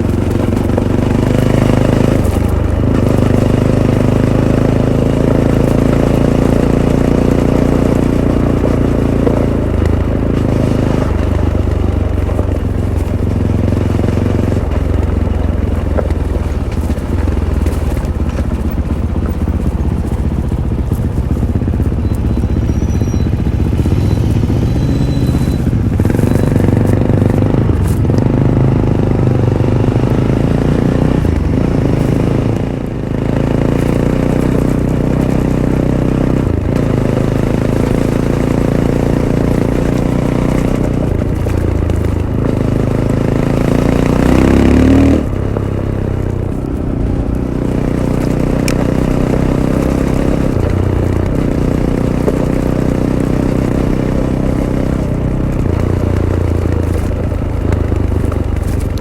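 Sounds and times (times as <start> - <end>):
motorcycle engine running: 0.0 - 59.0
tyre noise: 0.0 - 59.0.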